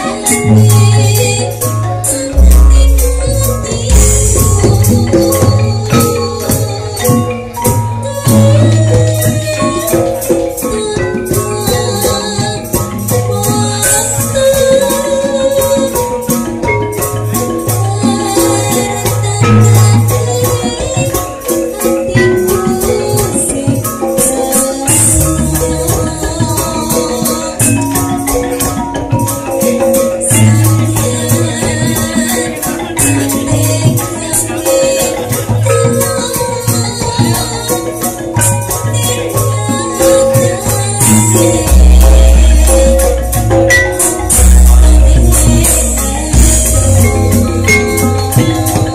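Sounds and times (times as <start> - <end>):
drum strokes: 0.0 - 48.9
fast jingling percussion: 0.0 - 48.9
metallophones struck with mallets: 0.0 - 48.9.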